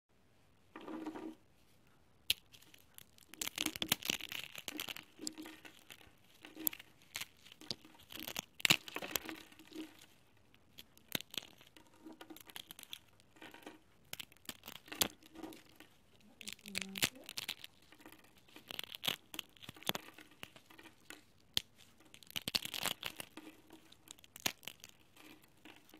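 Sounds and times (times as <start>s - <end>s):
dry noodles snapping and crunching: 2.2s - 25.9s.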